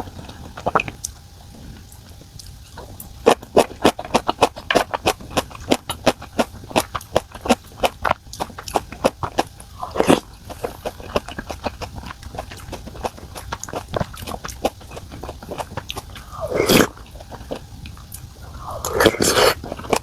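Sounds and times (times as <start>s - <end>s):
drawn-out mouth sounds: 0.0s - 20.0s
person chewing: 0.0s - 20.0s.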